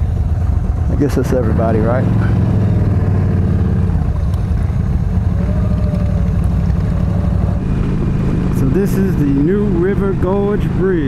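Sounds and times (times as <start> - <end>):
motorcycle engine riding: 0.0 - 11.0.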